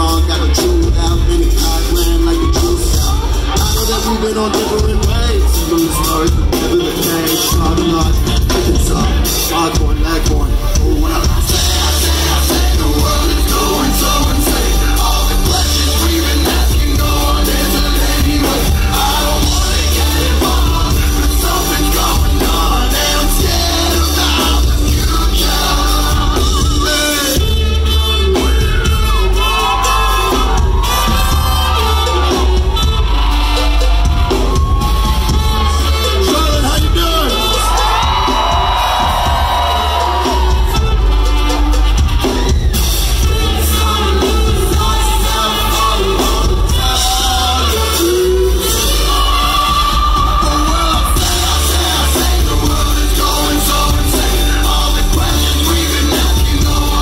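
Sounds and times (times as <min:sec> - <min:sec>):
heavy bass and drums: 0:00.0 - 0:57.0
live band music through pa: 0:00.0 - 0:57.0
person singing: 0:00.0 - 0:57.0
sung vocal line: 0:00.0 - 0:57.0.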